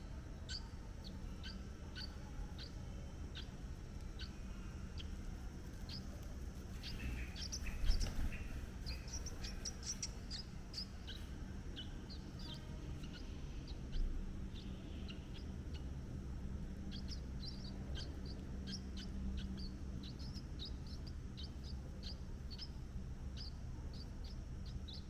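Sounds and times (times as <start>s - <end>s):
low background rumble: 0.0s - 25.0s
small birds chirping: 0.0s - 25.0s.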